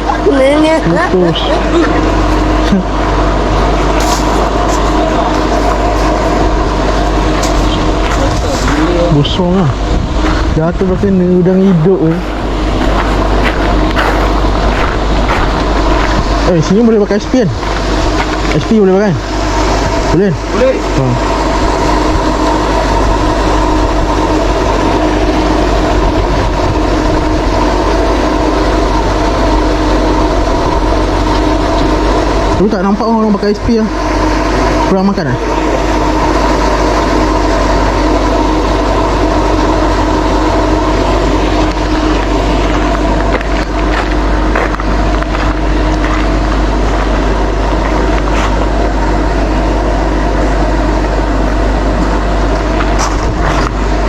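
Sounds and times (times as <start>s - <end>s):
motor droning: 0.0s - 54.0s.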